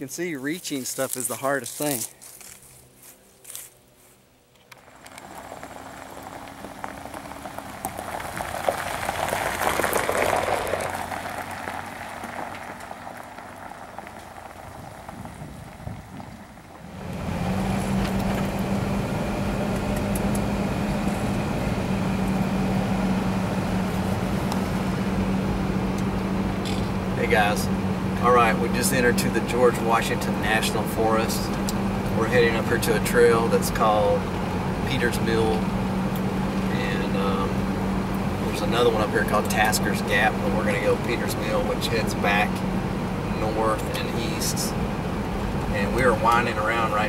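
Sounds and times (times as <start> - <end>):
tyres crunching on gravel: 0.0 - 18.9, 26.0 - 47.0
engine running: 0.4 - 47.0
engine and road noise inside cab: 1.5 - 47.0.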